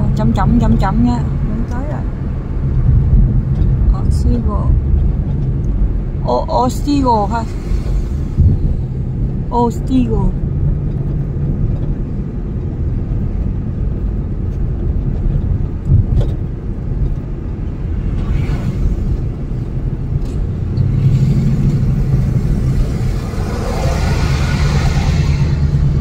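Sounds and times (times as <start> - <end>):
car road noise rumble: 0.0 - 26.0.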